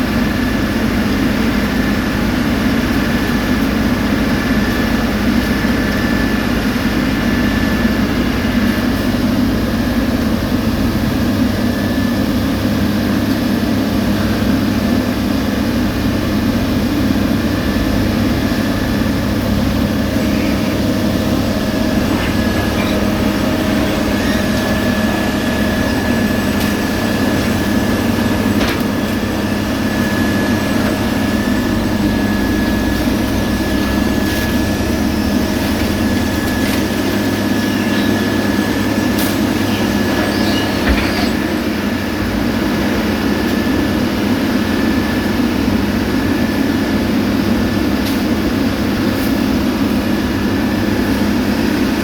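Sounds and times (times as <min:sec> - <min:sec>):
high steady whine: 0:00.0 - 0:52.0
road-paving machinery droning: 0:00.0 - 0:52.0.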